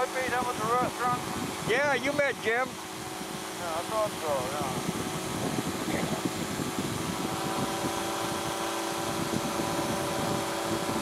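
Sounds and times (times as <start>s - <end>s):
powered parachute engine drone: 0.0s - 11.0s.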